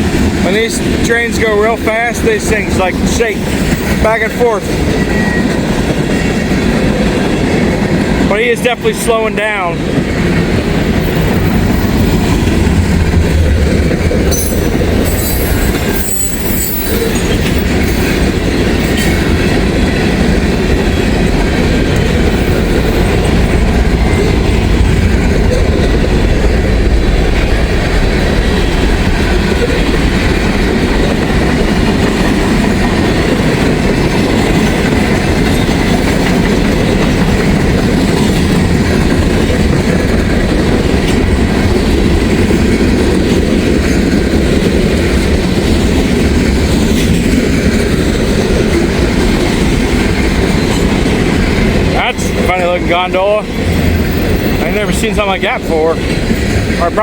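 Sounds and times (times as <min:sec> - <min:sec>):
train wheels rumbling over rails: 0:00.0 - 0:57.0.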